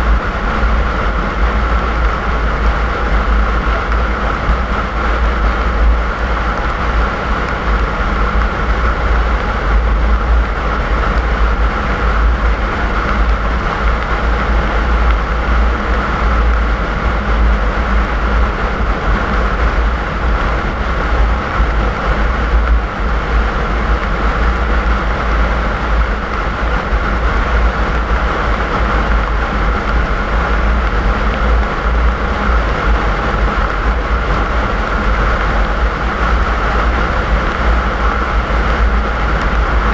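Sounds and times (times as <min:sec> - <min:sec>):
car road and engine noise: 0:00.0 - 0:39.9
heavy low rumble: 0:00.0 - 0:39.9.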